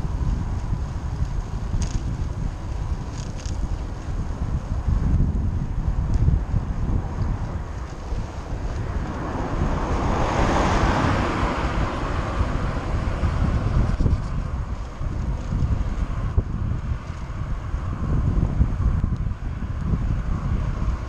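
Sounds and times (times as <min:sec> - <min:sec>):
car tyres hissing on wet road: 0:00.0 - 0:21.0
wind buffeting microphone: 0:00.0 - 0:21.0.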